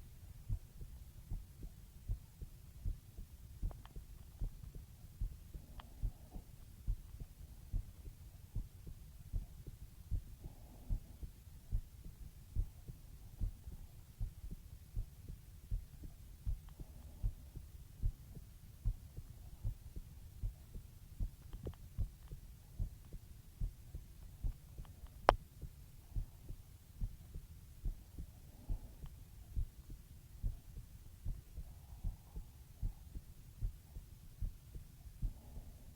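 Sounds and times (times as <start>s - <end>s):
slow human heartbeat: 0.0s - 35.9s.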